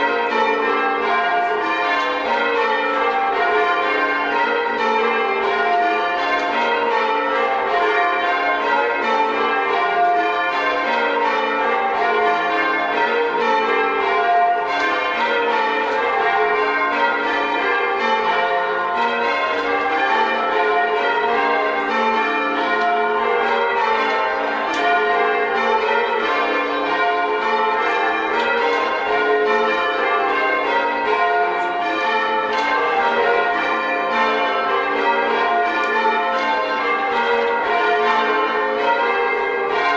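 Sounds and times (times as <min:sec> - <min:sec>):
church bells change-ringing: 0:00.0 - 0:39.9.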